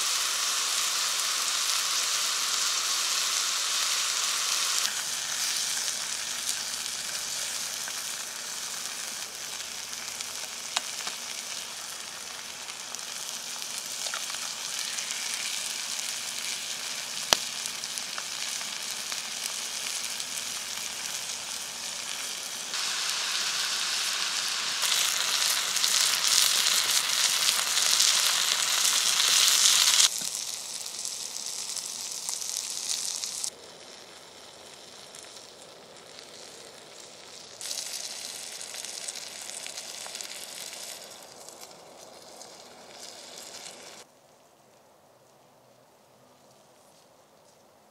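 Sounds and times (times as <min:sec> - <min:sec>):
food sizzling in oil: 0:00.0 - 0:44.1.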